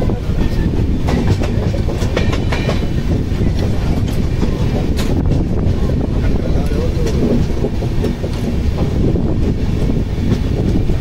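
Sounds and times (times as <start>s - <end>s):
train coach rumble: 0.0s - 11.0s
wheels clacking over rail joints: 0.0s - 11.0s.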